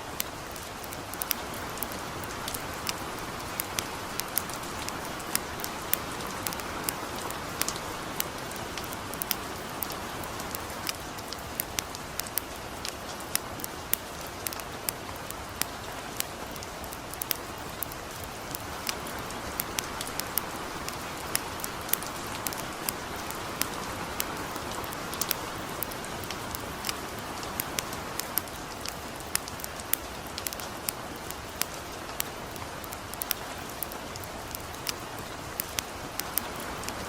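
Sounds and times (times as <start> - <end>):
campfire crackling and popping: 0.0 - 37.0
gentle rain: 0.0 - 37.0.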